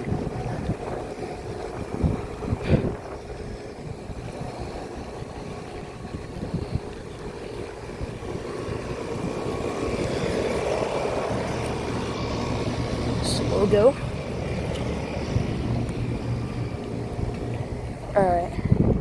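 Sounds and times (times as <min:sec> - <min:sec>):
air conditioner fan hum: 0:00.0 - 0:19.0.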